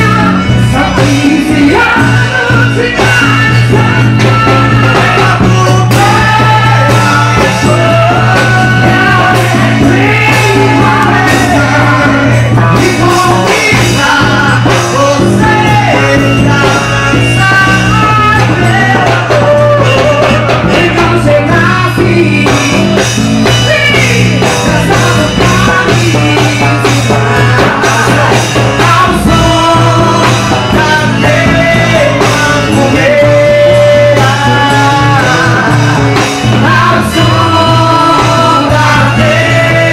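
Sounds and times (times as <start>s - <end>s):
loud band music: 0.0s - 39.9s
person singing: 0.0s - 39.9s.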